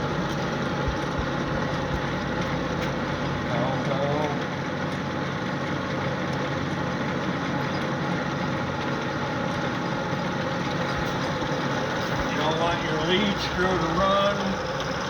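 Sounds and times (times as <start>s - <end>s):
lathe running with mechanical hum: 0.0s - 15.0s.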